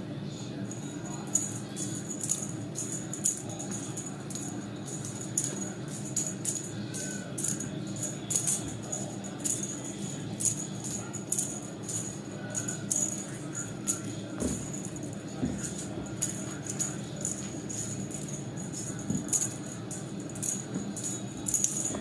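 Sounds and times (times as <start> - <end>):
steady low hum: 0.0 - 22.0
small jingle bell rattling: 0.6 - 22.0.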